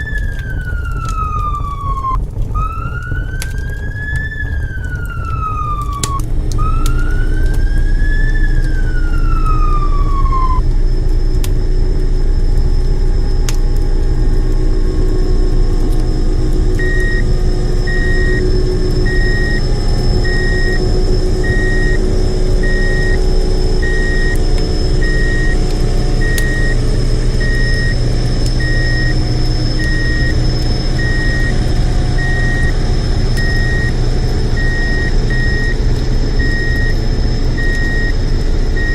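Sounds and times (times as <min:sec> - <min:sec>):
reversing alarm beeping: 0:00.0 - 0:38.9
siren wailing: 0:00.0 - 0:38.9
truck engine drone: 0:00.0 - 0:38.9.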